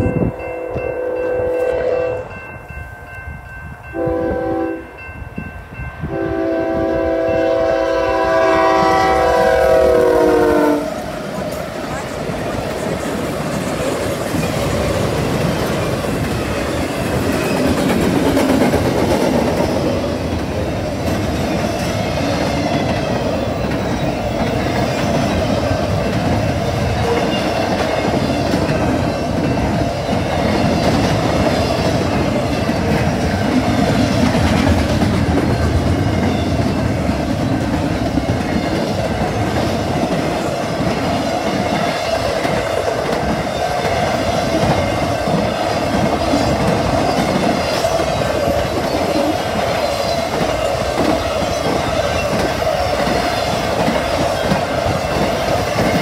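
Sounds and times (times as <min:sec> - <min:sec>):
diesel locomotives passing: 0:00.0 - 0:56.0
train wheel clatter on rails: 0:08.2 - 0:56.0.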